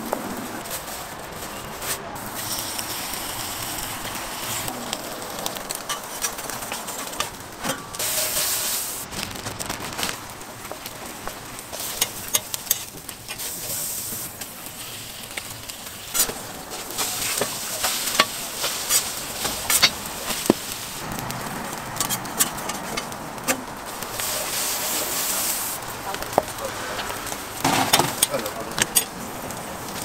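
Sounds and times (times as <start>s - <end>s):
food sizzling on a griddle: 0.2s - 30.0s.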